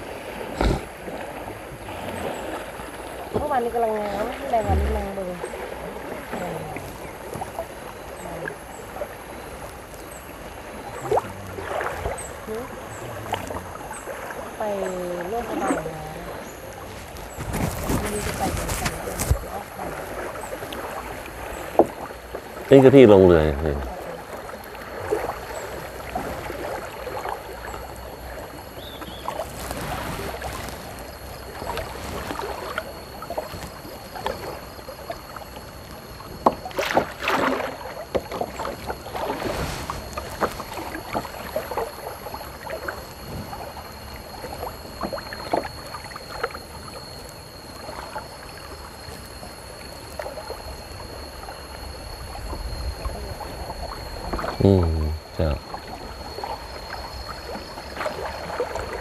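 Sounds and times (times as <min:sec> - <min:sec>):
kayak paddles splashing: 0:00.0 - 0:59.0
wash of river water: 0:00.0 - 0:59.0.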